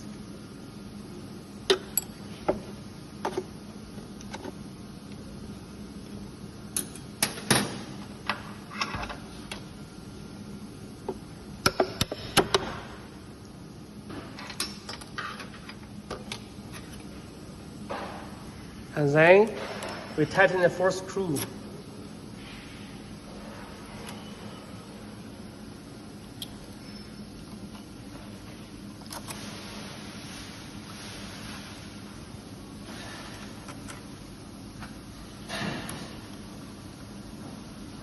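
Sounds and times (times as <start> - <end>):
faint machine hum: 0.0 - 38.0.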